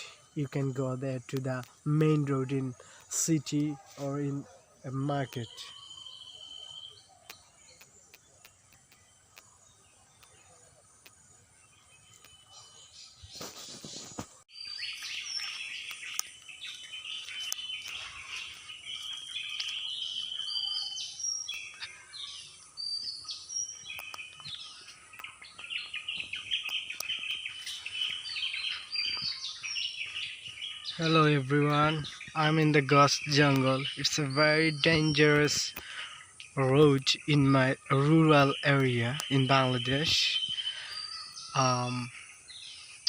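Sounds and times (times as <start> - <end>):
birds chirping and calling: 0.0 - 43.0
faint outdoor ambience: 0.0 - 43.0.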